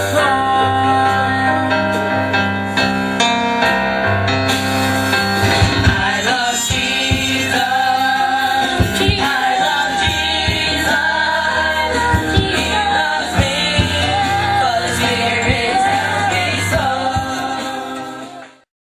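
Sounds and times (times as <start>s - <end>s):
gospel song with keyboard and beat: 0.0s - 18.7s.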